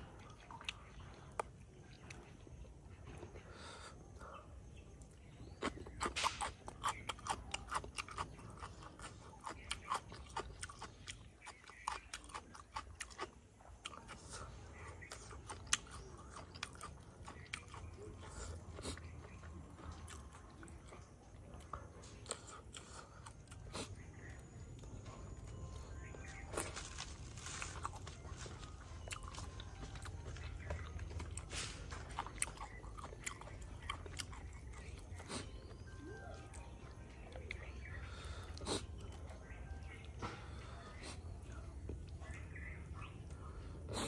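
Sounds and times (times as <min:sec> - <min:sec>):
person chewing crunchy food: 0:00.0 - 0:44.0.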